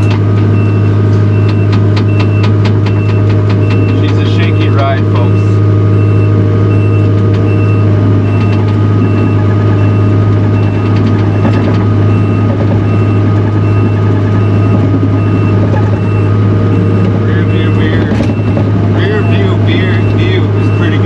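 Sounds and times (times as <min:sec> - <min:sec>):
backup alarm beeping: 0:00.0 - 0:21.0
diesel engine running: 0:00.0 - 0:21.0.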